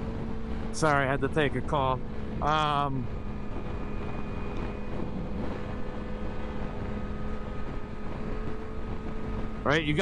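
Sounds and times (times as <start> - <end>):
motorcycle engine droning: 0.0 - 10.0
wind on microphone: 2.0 - 10.0.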